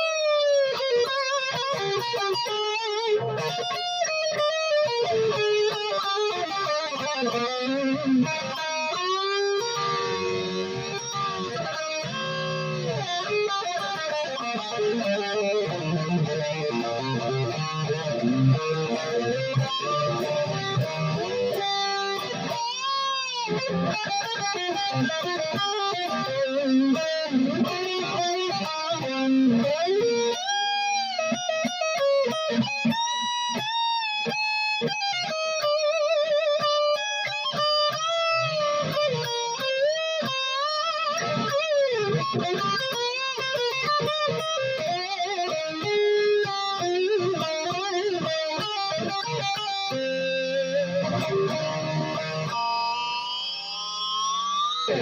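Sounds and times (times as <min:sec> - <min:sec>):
electric guitar playing solo: 0:00.0 - 0:55.0.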